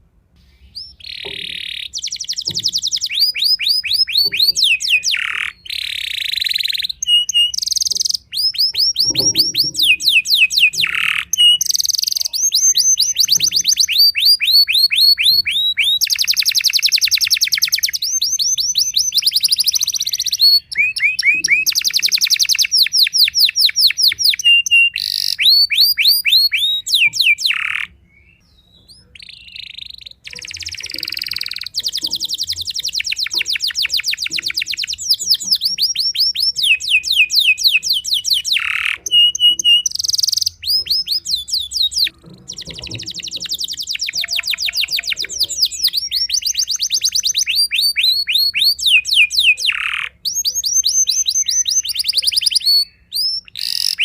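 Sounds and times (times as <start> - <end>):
canary singing trills: 0.3 - 54.0.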